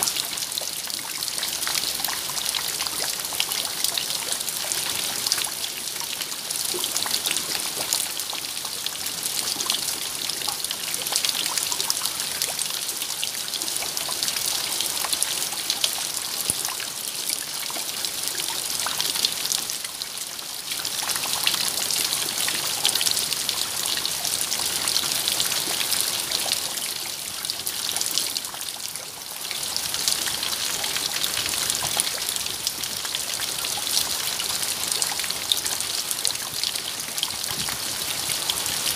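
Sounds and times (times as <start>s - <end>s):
steady rain patter: 0.0s - 38.9s
trickling water: 0.0s - 38.9s.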